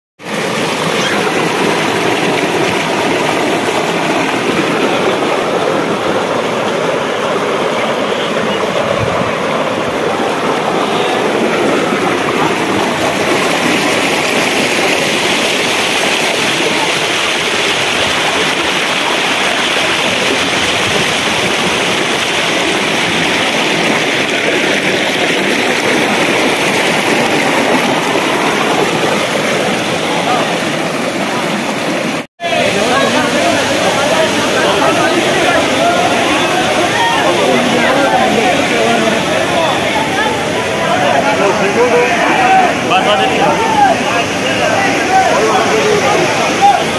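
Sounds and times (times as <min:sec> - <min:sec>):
stream rushing over boulders: 0:00.2 - 0:46.9.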